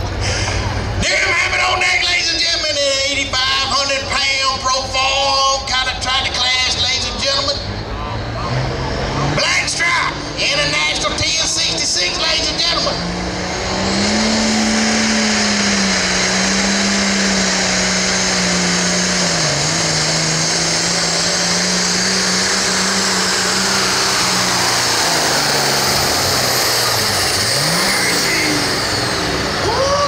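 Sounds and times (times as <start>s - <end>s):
diesel tractor engine under load: 0.0s - 30.0s
high turbo whine: 0.0s - 30.0s.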